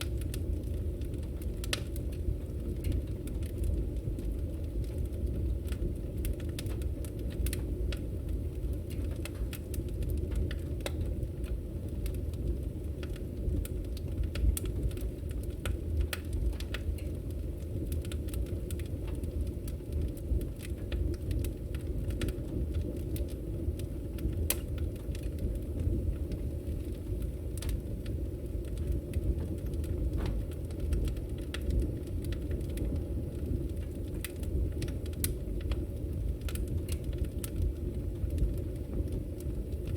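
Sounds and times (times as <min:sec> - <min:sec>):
bonfire flames rumbling: 0:00.0 - 0:39.9
fire crackling and popping: 0:00.0 - 0:39.9.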